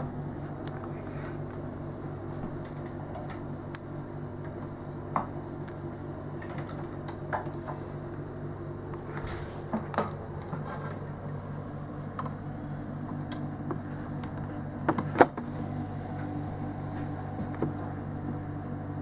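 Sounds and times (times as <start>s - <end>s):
lorry engine and refrigeration hum: 0.0s - 19.0s.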